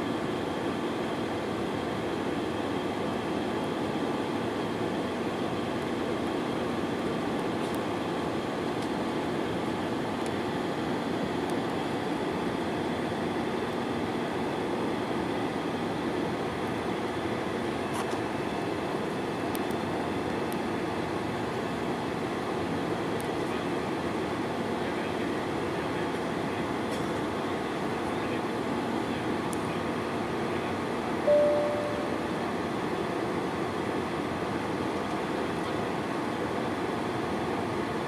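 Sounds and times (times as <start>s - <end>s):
airplane cabin engine hum: 0.0s - 38.0s.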